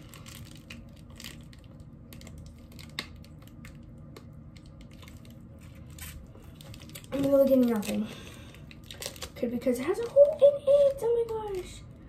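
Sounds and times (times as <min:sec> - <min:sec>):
plastic baggie clicking and crinkling: 0:00.0 - 0:12.0.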